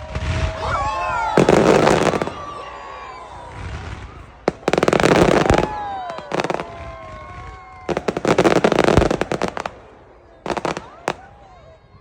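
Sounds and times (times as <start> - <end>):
fireworks crackling: 0.0 - 11.7.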